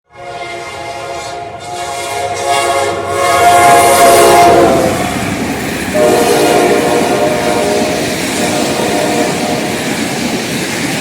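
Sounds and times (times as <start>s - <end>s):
locomotive air horn chord: 0.1s - 5.0s, 5.9s - 9.9s
train wheel and rail noise: 0.1s - 11.0s.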